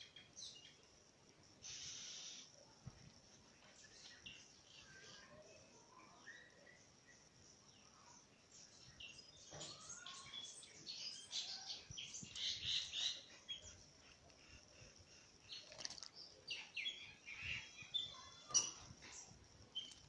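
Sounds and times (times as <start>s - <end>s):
bird chirps: 3.6s - 20.0s.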